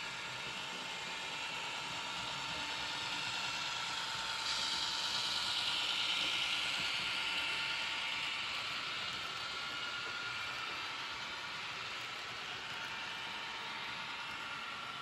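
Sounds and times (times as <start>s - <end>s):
model train whirring on track: 0.0s - 15.0s.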